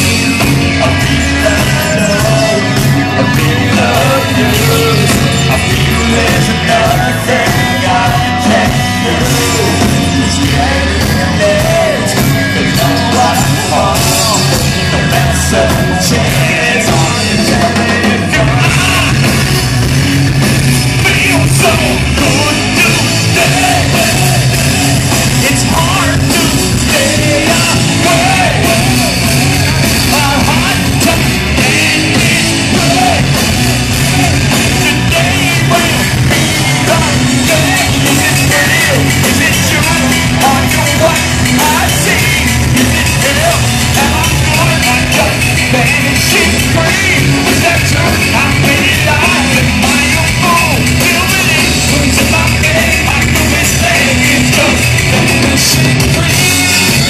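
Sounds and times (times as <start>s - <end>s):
drums: 0.0s - 57.0s
electric guitar: 0.0s - 57.0s
keyboards: 0.0s - 57.0s
singers on microphones: 0.0s - 57.0s.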